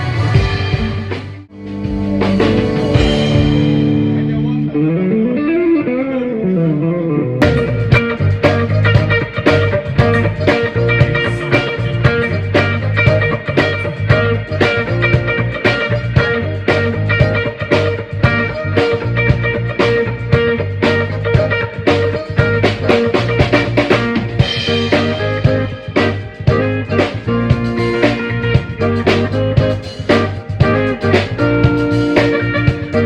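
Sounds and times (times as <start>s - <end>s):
live blues rock band: 0.0s - 33.0s
electric guitar chord ringing: 1.5s - 33.0s.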